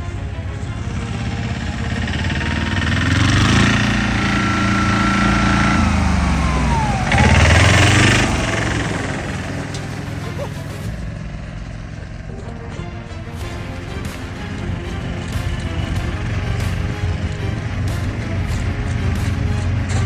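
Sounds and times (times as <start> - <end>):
diesel engine working hard: 0.0 - 20.0.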